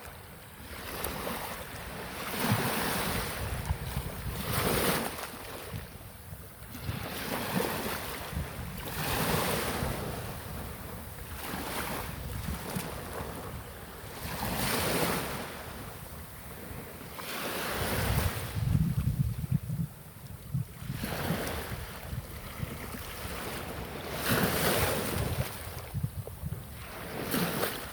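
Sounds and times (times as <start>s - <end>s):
wind buffeting microphone: 0.6s - 27.9s.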